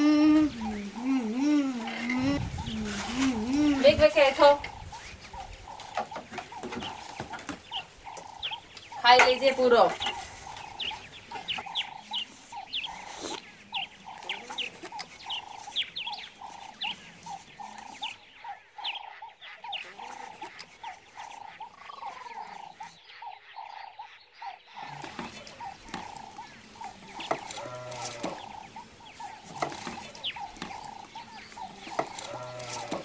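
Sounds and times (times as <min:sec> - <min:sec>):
small animals chirping: 0:00.0 - 0:33.0.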